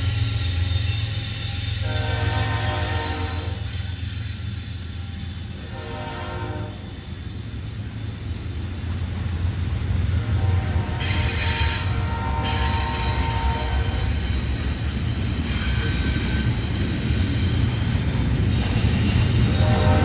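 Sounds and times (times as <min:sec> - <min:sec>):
train wheels squealing: 0:00.0 - 0:20.0.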